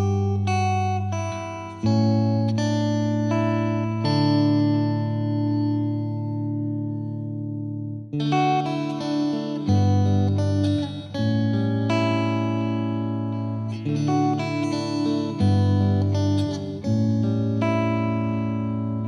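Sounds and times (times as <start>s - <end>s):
plucked string notes: 0.0s - 19.0s.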